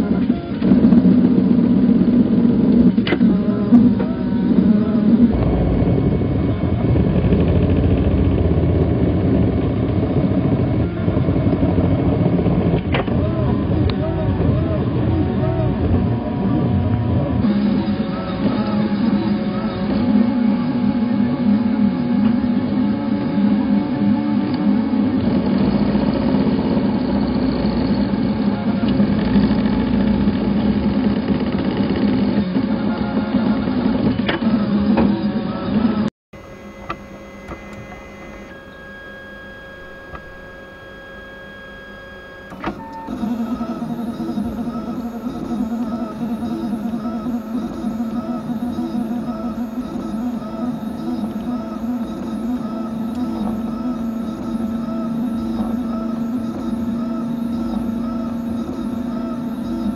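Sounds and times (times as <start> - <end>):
printer motors humming and rattling: 0.0 - 59.9.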